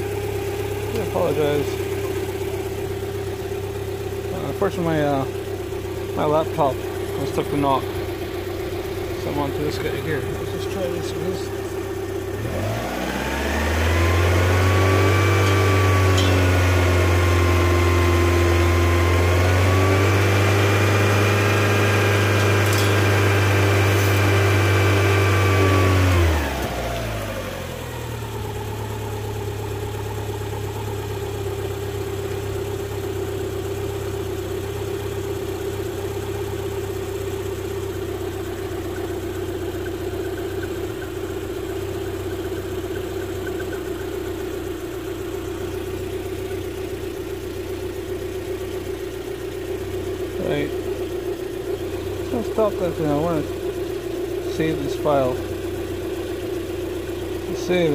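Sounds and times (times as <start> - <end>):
car engine revving and idling: 0.0 - 57.9.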